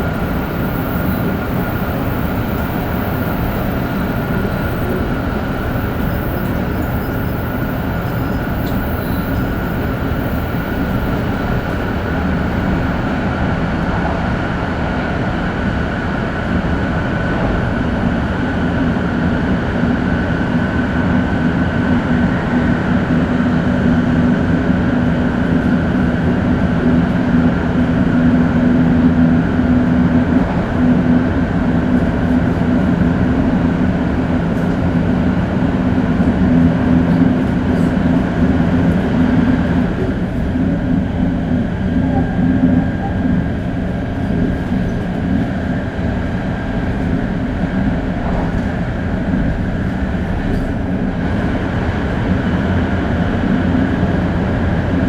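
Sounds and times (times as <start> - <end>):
train running at speed: 0.0 - 55.0.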